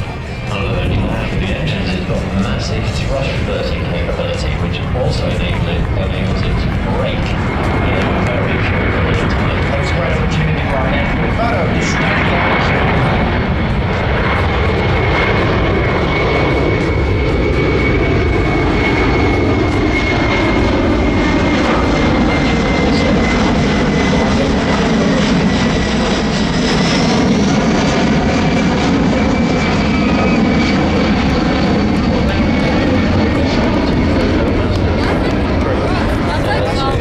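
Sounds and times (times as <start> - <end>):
high engine whine: 0.0 - 37.0
jet engines running in flight: 0.0 - 37.0.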